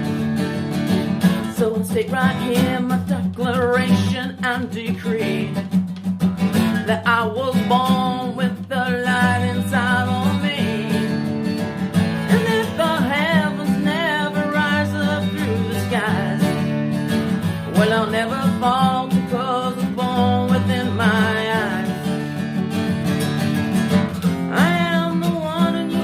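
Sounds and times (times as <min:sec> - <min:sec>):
acoustic guitar song: 0:00.0 - 0:26.0.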